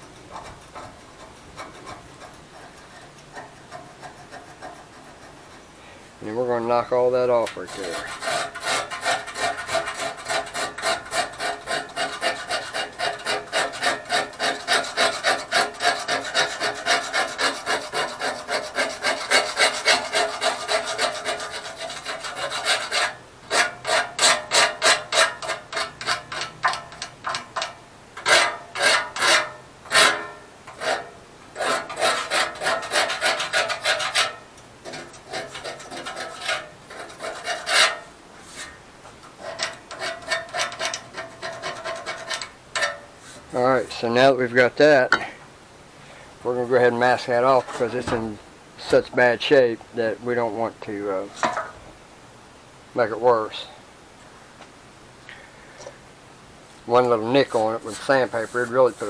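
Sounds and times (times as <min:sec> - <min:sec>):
scraping rust off metal: 0:00.0 - 0:45.4, 0:46.4 - 0:51.9, 0:56.7 - 0:59.0.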